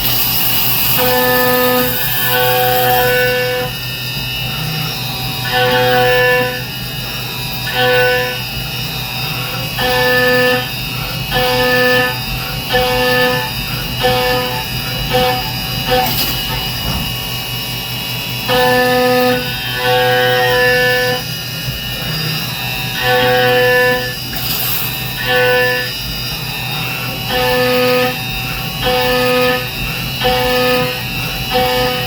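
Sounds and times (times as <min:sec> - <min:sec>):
end mill cutting aluminium: 0:00.0 - 0:32.0
spindle whine: 0:00.0 - 0:32.0.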